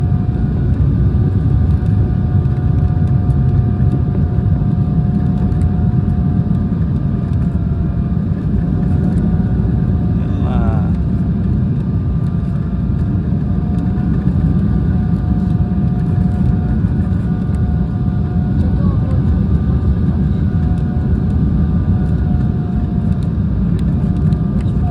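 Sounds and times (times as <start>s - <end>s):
airliner cabin rumble: 0.0s - 24.9s.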